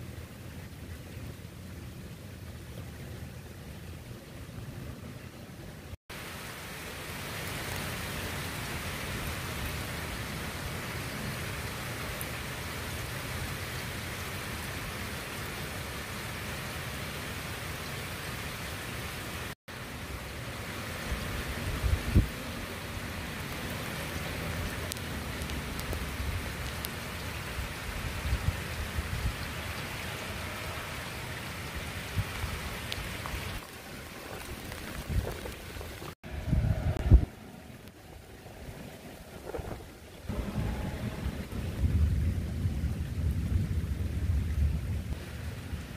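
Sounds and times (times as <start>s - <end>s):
rain falling on street: 0.0s - 45.9s.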